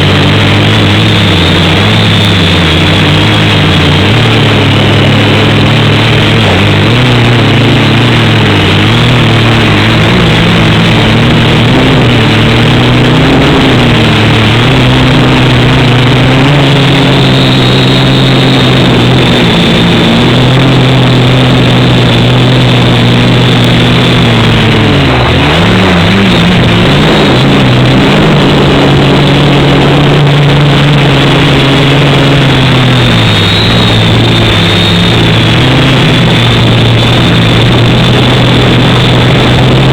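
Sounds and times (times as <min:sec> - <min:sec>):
quadcopter propellers buzzing: 0:00.0 - 0:39.9.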